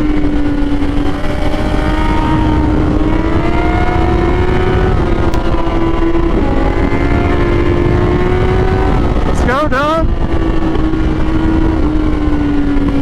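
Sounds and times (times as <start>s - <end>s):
motorcycle engine accelerating: 0.0s - 13.0s
wind rush: 0.0s - 13.0s.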